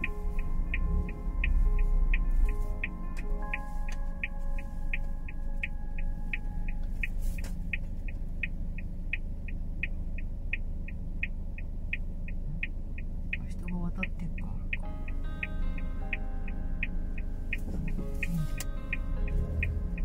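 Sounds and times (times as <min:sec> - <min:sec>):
car engine idling: 0:00.0 - 0:20.0
turn signal clicking: 0:00.0 - 0:20.0.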